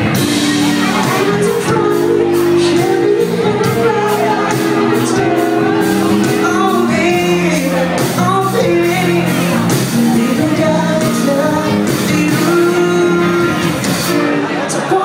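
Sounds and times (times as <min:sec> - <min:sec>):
electric guitar: 0:00.0 - 0:15.0
person singing: 0:00.0 - 0:15.0.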